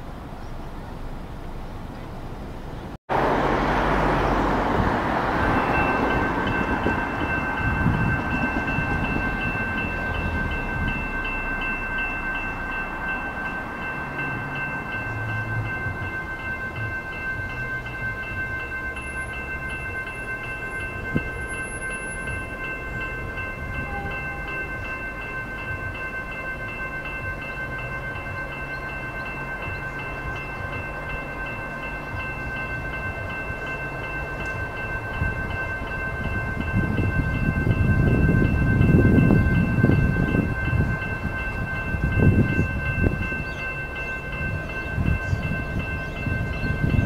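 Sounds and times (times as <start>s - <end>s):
level crossing bell ringing: 5.4s - 47.0s.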